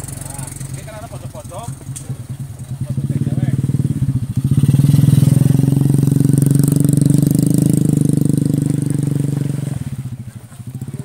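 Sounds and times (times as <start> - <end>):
engine running with fast pulse: 0.0 - 11.0.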